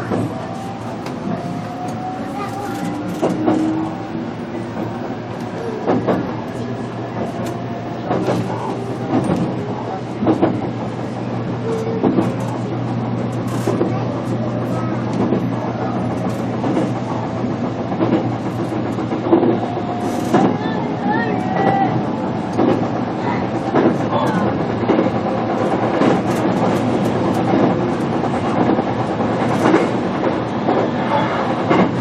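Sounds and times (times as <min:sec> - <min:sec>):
wheels clacking over rail joints: 0:00.0 - 0:21.4, 0:22.5 - 0:32.0
train car hum: 0:00.0 - 0:32.0.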